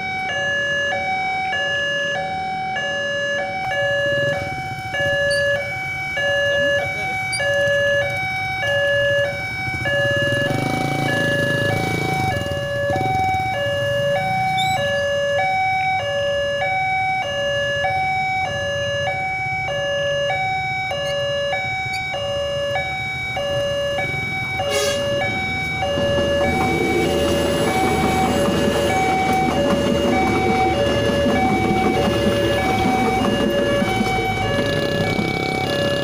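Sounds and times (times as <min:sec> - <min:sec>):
diesel railcar rumbling: 0:00.0 - 0:36.0
two-tone crossing warning alarm: 0:00.0 - 0:36.0.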